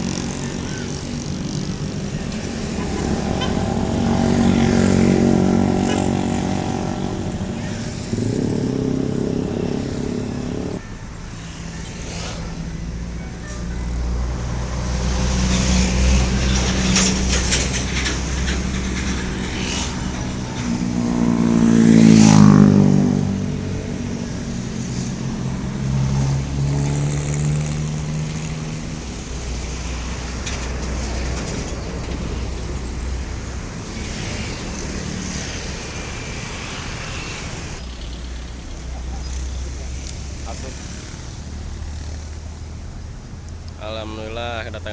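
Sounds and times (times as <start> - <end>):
bus driving past: 0.0 - 44.9
buses running: 0.0 - 44.9.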